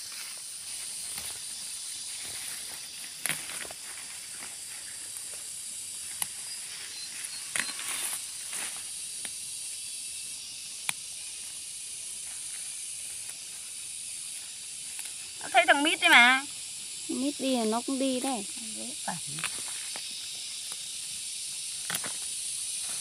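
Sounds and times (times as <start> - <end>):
leaves rustling: 0.0 - 9.2, 11.2 - 23.0
steady high hiss: 0.0 - 23.0.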